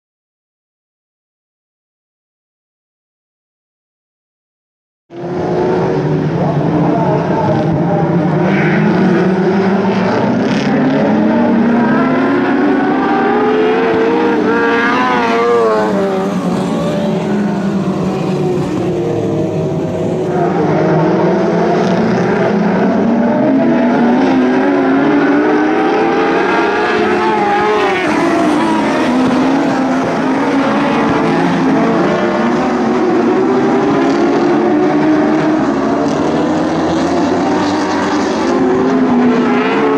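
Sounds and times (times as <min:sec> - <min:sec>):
racing car engines: 0:05.1 - 0:39.9.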